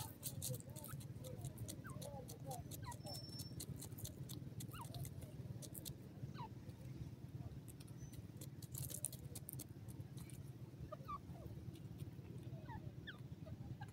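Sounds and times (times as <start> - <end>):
bird pecking and scratching soil: 0.0 - 13.9
low steady rumble: 0.0 - 13.9.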